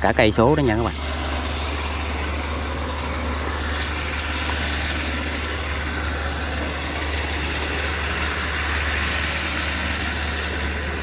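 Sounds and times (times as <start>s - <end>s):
harvester engine humming: 0.0s - 11.0s.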